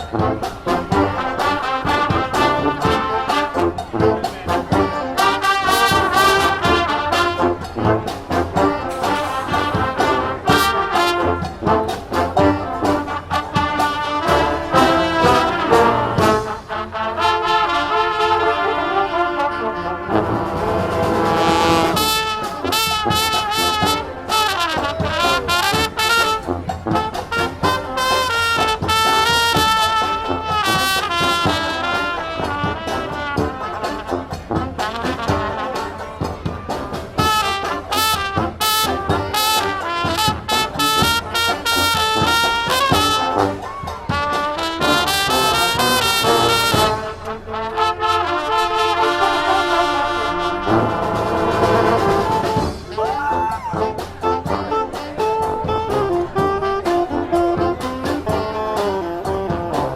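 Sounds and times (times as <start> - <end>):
drums: 0.0 - 59.9
trombones and trumpets: 0.0 - 59.9.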